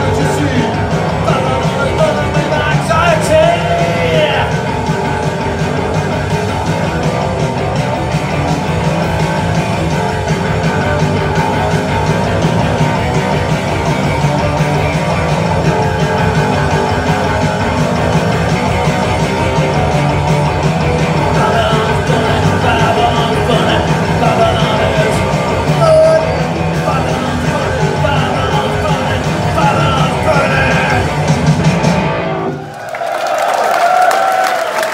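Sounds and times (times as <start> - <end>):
bass guitar: 0.0 - 32.7
distorted electric guitars: 0.0 - 32.7
drums: 0.0 - 34.9.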